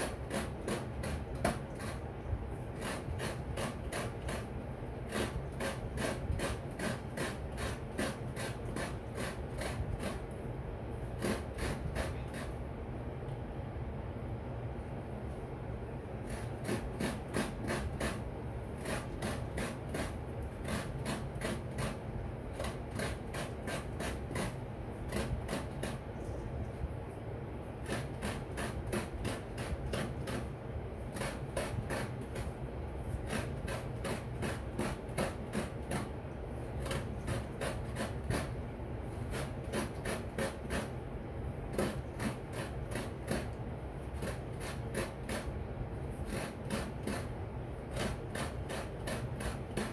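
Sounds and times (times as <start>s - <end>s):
coconut grating rasps: 0.0s - 10.4s, 11.1s - 12.6s, 16.2s - 26.3s, 27.7s - 49.9s.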